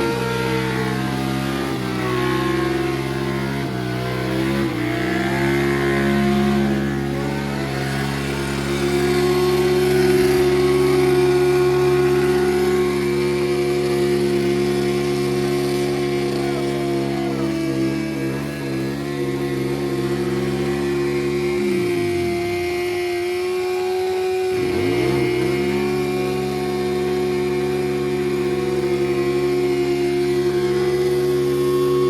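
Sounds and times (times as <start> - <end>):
motorcycle engine revving hard: 0.0 - 32.0.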